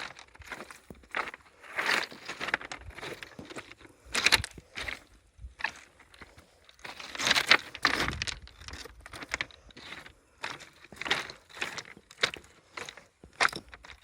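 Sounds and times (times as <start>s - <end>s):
footsteps on beach pebbles: 0.0s - 14.0s.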